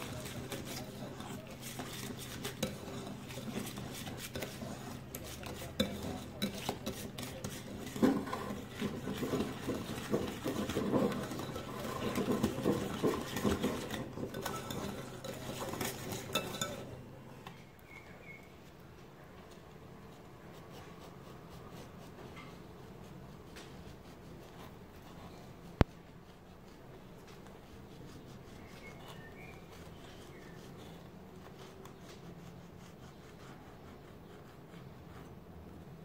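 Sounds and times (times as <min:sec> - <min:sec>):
whisk beating batter in bowl: 0:00.0 - 0:17.0, 0:20.1 - 0:35.4.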